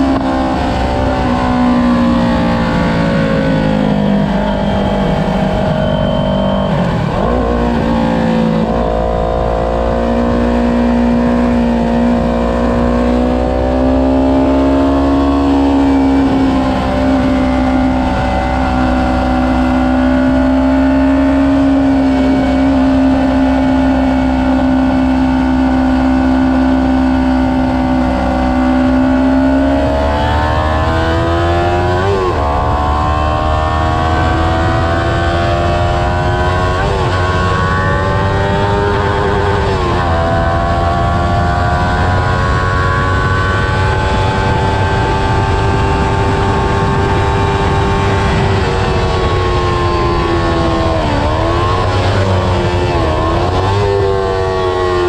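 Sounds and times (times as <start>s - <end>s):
motorcycle engine running hard: 0.0s - 55.0s
wind rushing over microphone: 0.0s - 55.0s.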